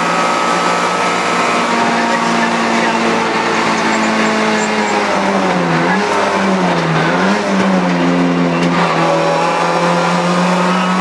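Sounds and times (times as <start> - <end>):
car engine running hard: 0.0 - 11.0.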